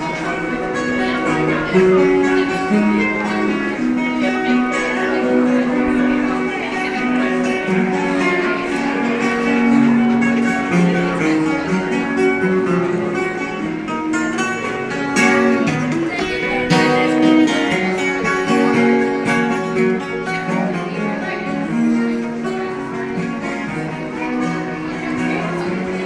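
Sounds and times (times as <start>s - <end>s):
guitar strumming and plucking: 0.0s - 26.0s.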